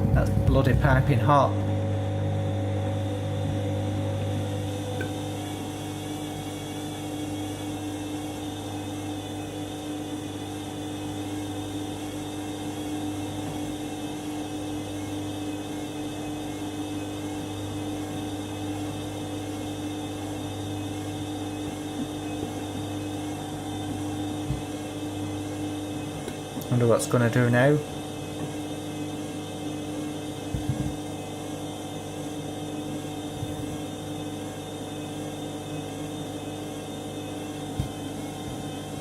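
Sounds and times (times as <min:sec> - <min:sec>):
washing machine humming: 0:00.0 - 0:39.0.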